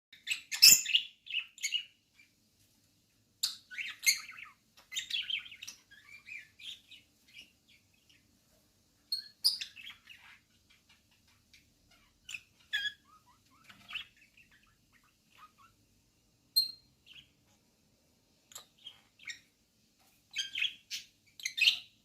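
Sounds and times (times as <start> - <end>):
parrots chirping: 0.2 - 2.4, 3.4 - 17.6, 18.4 - 22.0.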